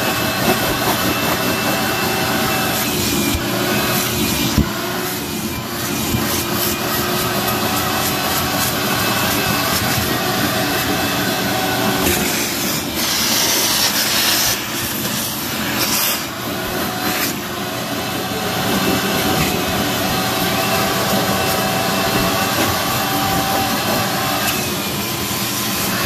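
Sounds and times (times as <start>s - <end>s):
shop vac suction hissing: 0.0s - 26.0s.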